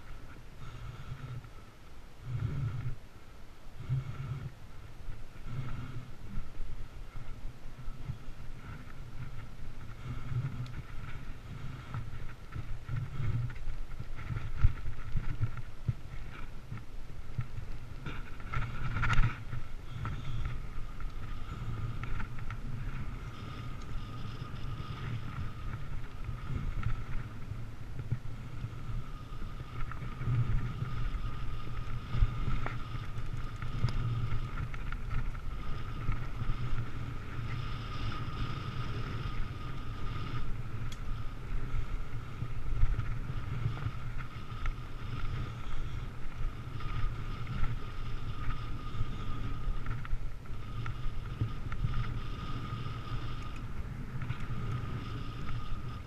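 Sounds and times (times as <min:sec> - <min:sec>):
steady high buzz: 0:00.0 - 0:56.0
wind rumbling on microphone: 0:00.0 - 0:56.0.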